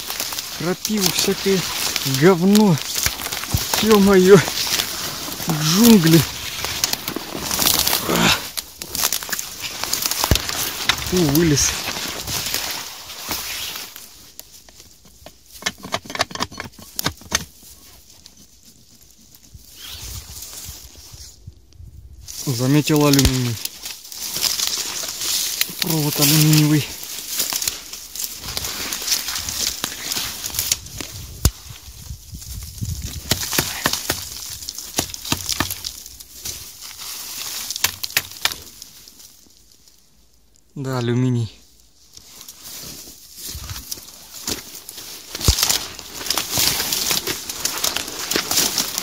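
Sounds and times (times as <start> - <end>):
footsteps crunching twigs: 0.0 - 15.6, 22.2 - 40.6, 41.6 - 49.0.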